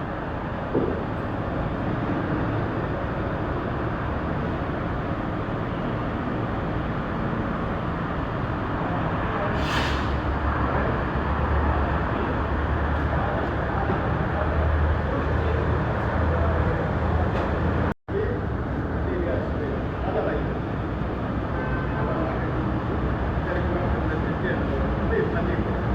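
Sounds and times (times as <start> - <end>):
heavy vehicle running: 0.0 - 25.9.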